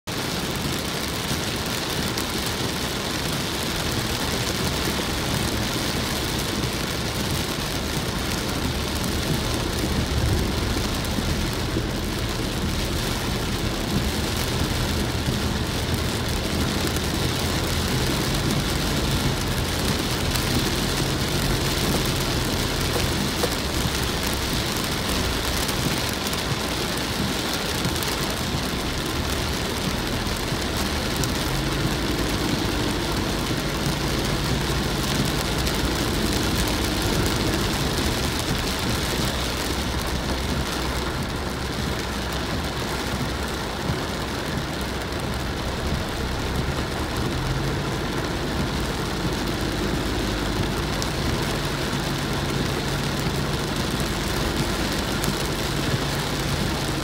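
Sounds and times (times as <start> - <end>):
heavy rain on car roof: 0.0 - 57.0
low hum of moving car: 0.0 - 57.0.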